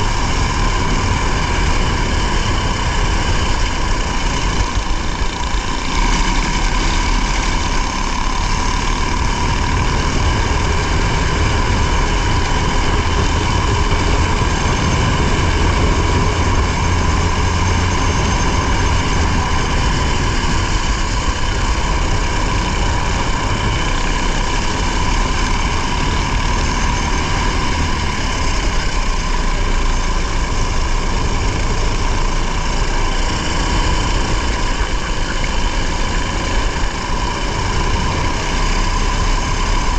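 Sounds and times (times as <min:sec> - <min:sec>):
rally car engine running: 0:00.0 - 0:39.9
road and tyre noise: 0:00.0 - 0:39.9.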